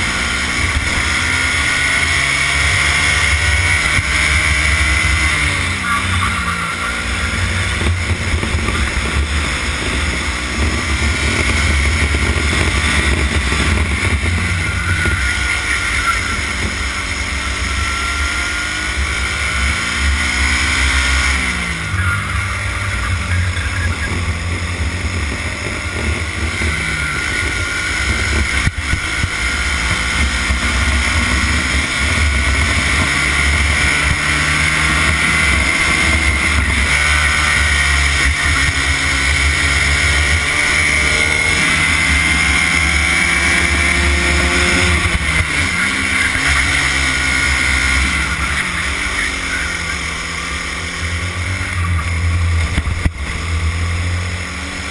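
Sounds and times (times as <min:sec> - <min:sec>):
kart engine revving: 0:00.0 - 0:54.9.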